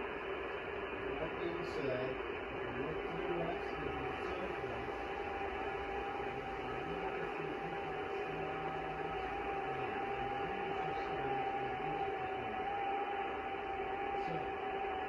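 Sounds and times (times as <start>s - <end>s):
radio hiss: 0.0s - 15.0s
thin steady tones: 0.0s - 15.0s.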